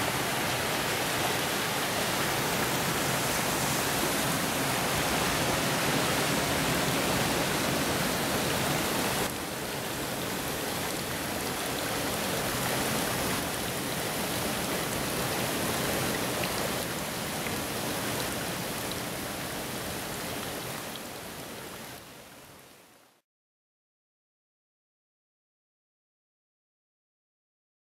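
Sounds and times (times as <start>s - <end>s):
mountain stream rushing: 0.0s - 23.1s.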